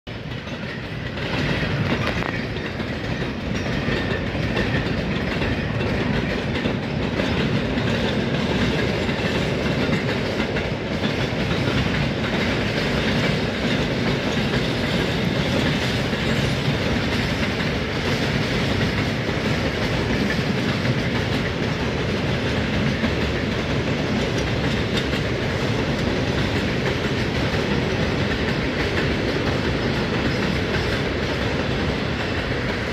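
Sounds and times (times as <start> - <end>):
steel wheels rumbling on rail: 0.1 - 32.9.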